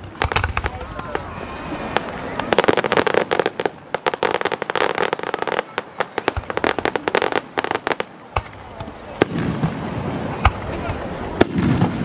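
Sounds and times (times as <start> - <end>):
fireworks bangs: 0.0 - 12.0
fireworks crackling and popping: 0.0 - 12.0.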